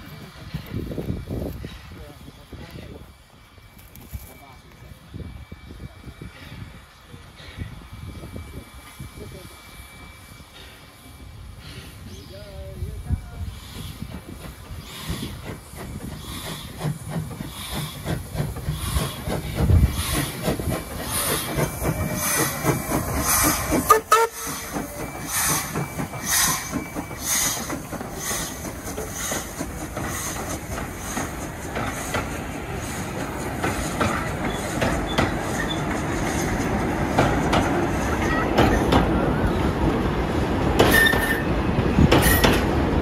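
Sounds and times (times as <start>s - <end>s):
steam locomotive exhaust beats: 0.0s - 43.0s
hissing steam: 4.9s - 43.0s.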